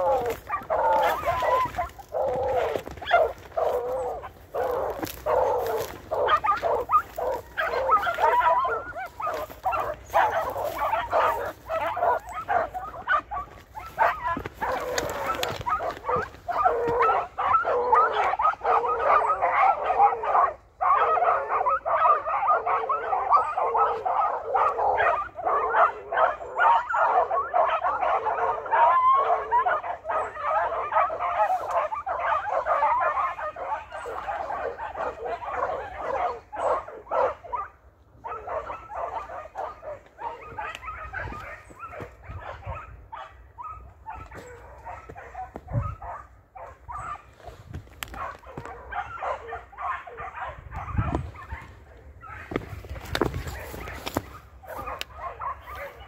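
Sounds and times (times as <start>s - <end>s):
hounds baying: 0.0s - 56.0s.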